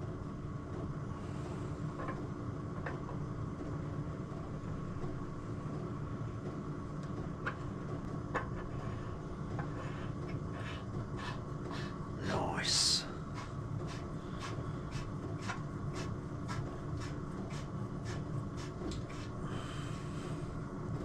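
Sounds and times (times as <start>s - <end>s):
low workshop hum: 0.0s - 21.0s.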